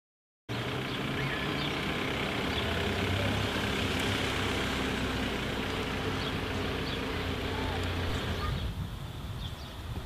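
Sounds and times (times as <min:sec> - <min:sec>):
car engine idling: 0:00.5 - 0:08.7
outdoor noise: 0:00.5 - 0:10.0.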